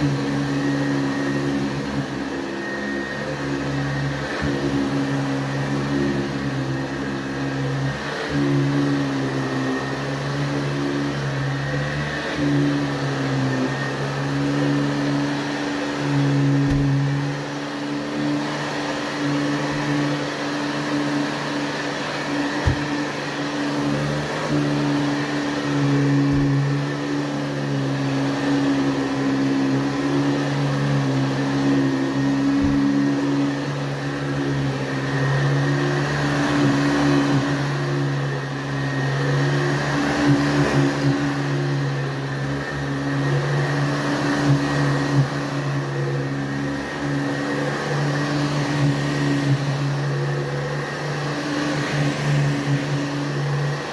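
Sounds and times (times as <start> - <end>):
upright vacuum cleaner running: 0.0 - 53.9.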